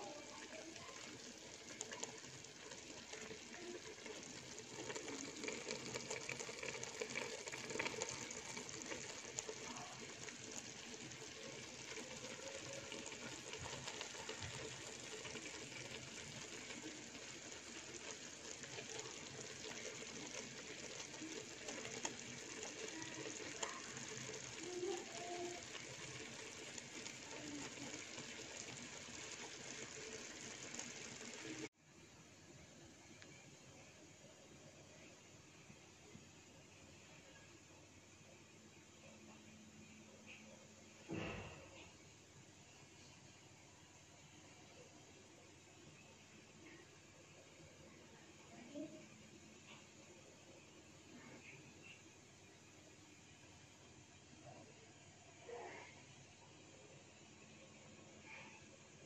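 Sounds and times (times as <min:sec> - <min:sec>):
pot simmering with watery hiss: 0:00.0 - 0:59.0.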